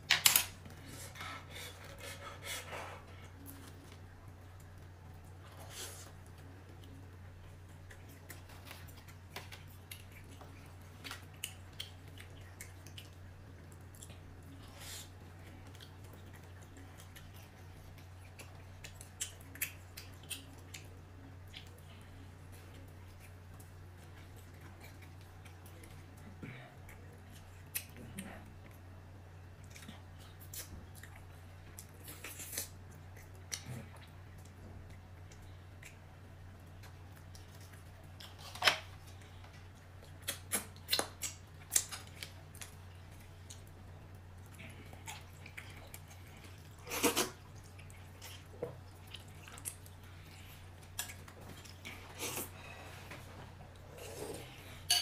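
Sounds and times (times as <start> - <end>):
chewing: 0.4 - 55.0.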